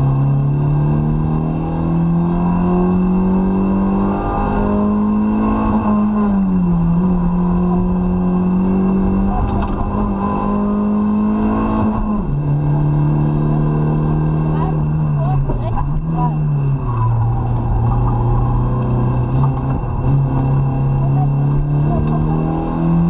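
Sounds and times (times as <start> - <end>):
car engine pulling hard: 0.0 - 23.0
tyre and road noise: 0.0 - 23.0.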